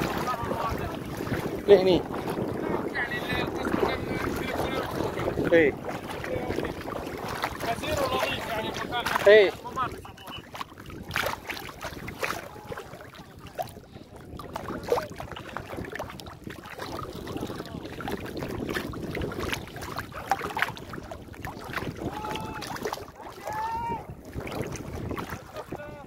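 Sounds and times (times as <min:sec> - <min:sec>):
water sloshing around wading legs: 0:00.0 - 0:26.0.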